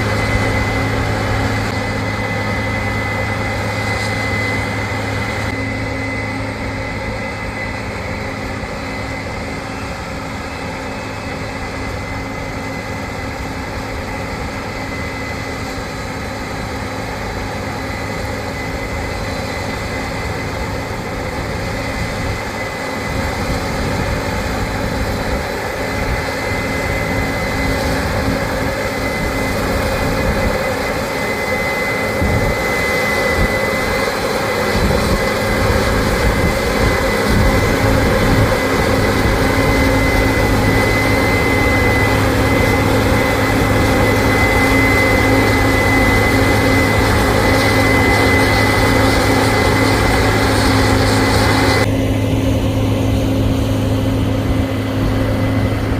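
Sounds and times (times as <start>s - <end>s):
combine harvester engine drone: 0.0s - 55.9s
high-pitched whine: 0.0s - 55.9s.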